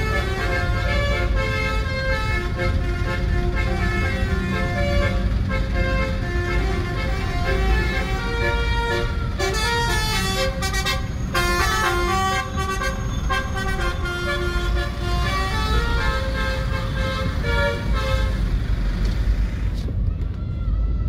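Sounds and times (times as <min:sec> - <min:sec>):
bus horn playing a melody: 0:00.0 - 0:18.6
traffic and engine rumble: 0:00.0 - 0:21.0.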